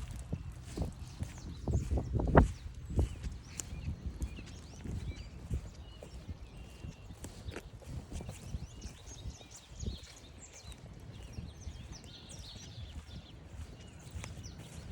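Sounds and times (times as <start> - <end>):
songbirds chirping: 0.0 - 14.9
wind rumbling on microphone: 0.0 - 14.9.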